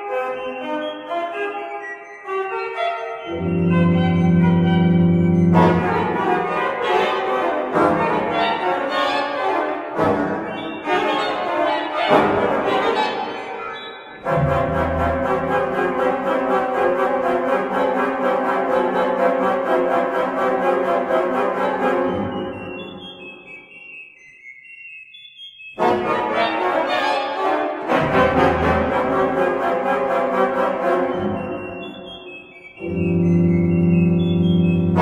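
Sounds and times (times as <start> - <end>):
organ playing: 0.0 - 35.0.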